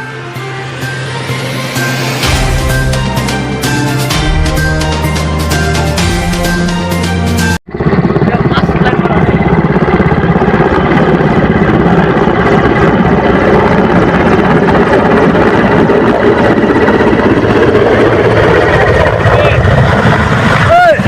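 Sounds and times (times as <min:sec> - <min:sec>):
helicopter rotor drone: 0:00.0 - 0:21.0.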